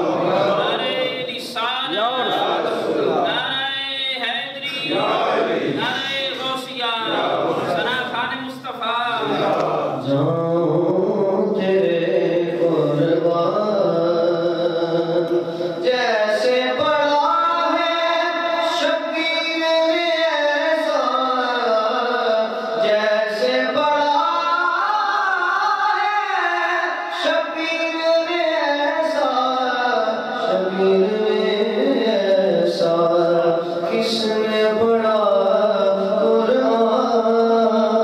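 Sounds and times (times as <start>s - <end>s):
man singing unaccompanied: 5.8s - 38.0s.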